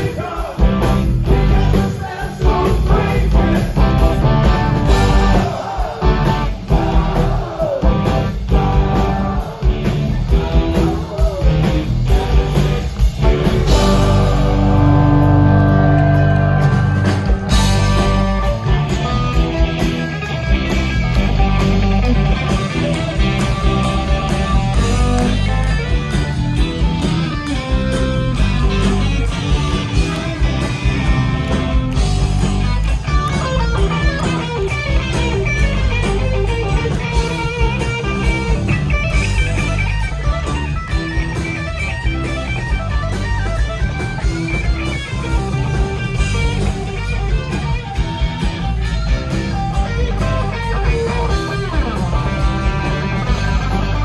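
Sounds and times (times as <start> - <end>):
electric guitar: 0.0 - 54.0
live rock band playing: 0.0 - 54.0
steady drum beat: 0.0 - 54.0.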